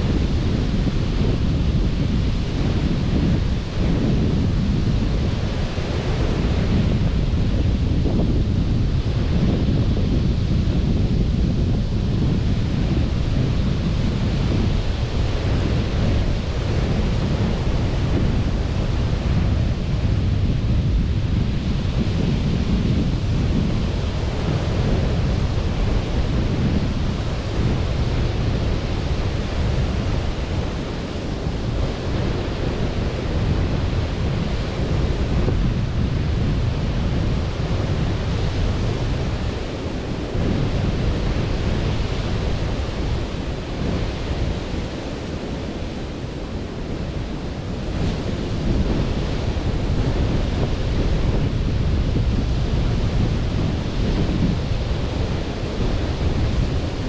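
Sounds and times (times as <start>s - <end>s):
surf washing onto beach: 0.0s - 57.0s
wind rumbling on microphone: 0.0s - 57.0s.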